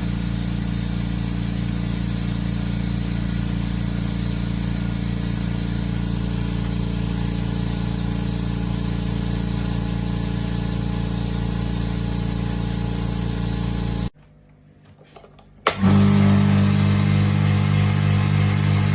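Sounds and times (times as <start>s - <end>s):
air compressor hum and hiss: 0.0s - 14.1s, 15.7s - 18.9s.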